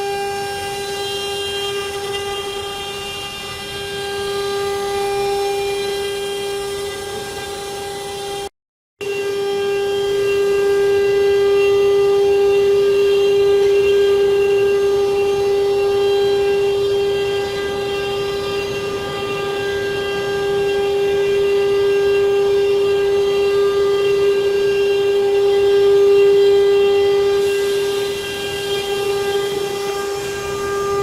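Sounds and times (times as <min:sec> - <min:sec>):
wood router spindle whine: 0:00.0 - 0:31.0.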